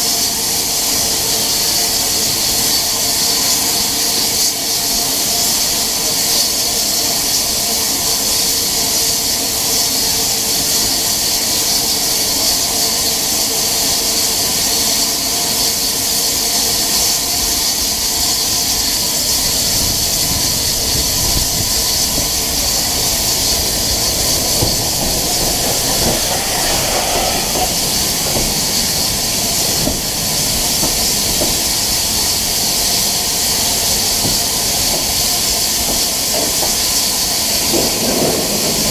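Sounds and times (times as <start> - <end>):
passing train wheels rumbling: 0.0 - 38.9
steam locomotive hissing: 0.0 - 38.9.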